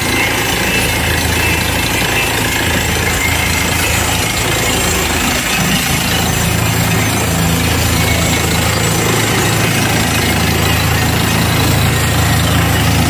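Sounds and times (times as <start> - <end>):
drilling rig engine drone: 0.0 - 13.0.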